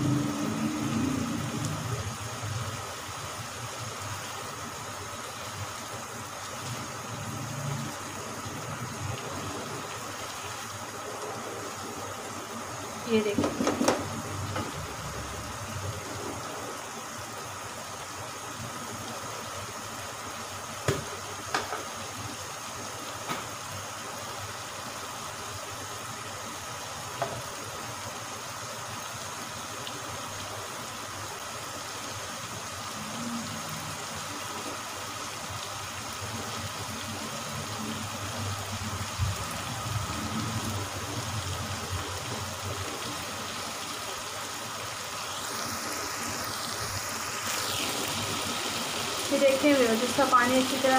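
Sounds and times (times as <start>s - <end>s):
curry bubbling in a frying pan: 0.0s - 50.9s.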